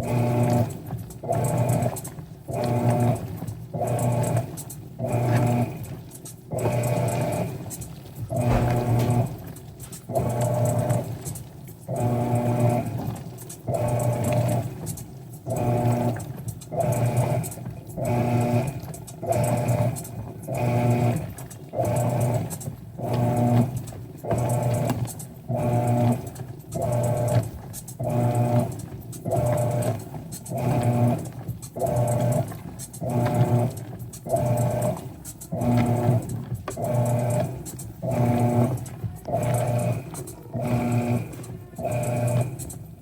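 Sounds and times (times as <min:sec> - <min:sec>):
washing machine agitating: 0:00.0 - 0:43.0.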